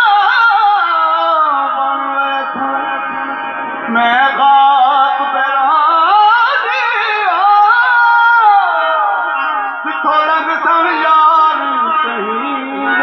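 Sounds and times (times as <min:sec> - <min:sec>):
person singing ornamented melody: 0:00.0 - 0:09.3, 0:09.9 - 0:13.0
harmonium: 0:00.0 - 0:13.0.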